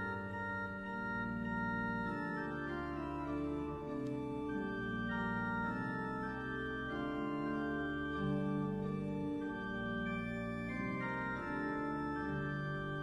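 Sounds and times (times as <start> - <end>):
church organ chords: 0.0 - 13.0.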